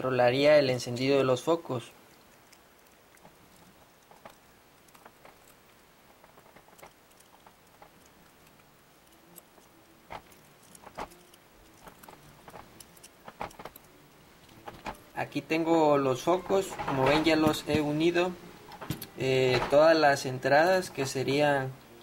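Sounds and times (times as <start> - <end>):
faint clicks and rustles: 0.8 - 22.0.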